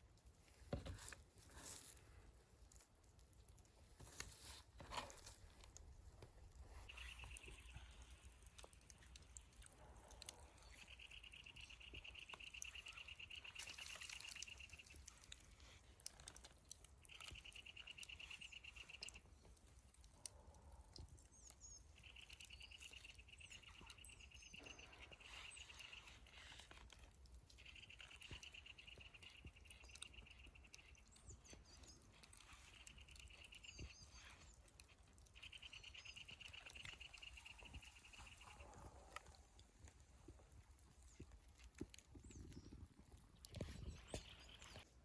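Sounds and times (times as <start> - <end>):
faint high chirps: 6.7 - 16.3, 17.0 - 19.5, 20.2 - 45.0.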